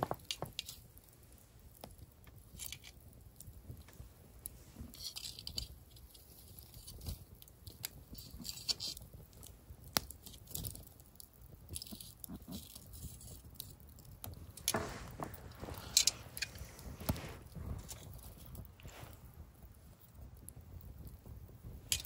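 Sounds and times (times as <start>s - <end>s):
campfire crackling and popping: 0.0s - 22.0s
rustling: 0.0s - 22.0s.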